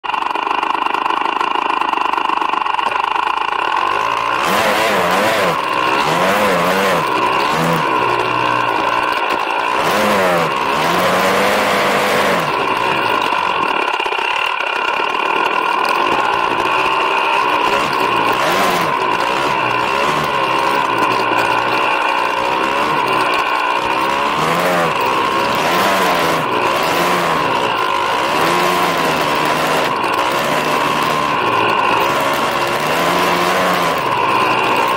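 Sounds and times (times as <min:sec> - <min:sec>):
high whine from drivetrain: 0:00.0 - 0:34.9
snowbike engine revving: 0:00.1 - 0:34.9.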